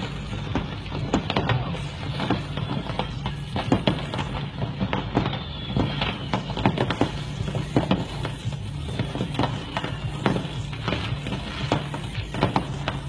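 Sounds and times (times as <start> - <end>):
fireworks popping and cracking: 0.0 - 13.0.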